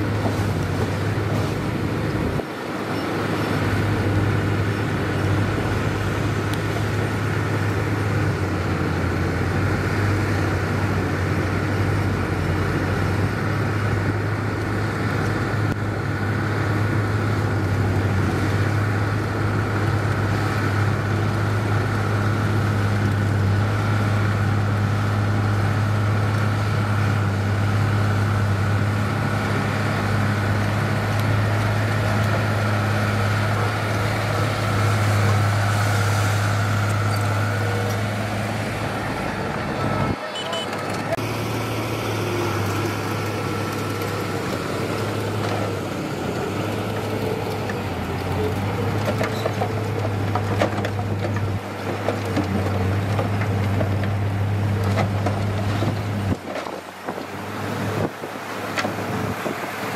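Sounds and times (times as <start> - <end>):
diesel machinery engine hum: 0.0 - 59.9.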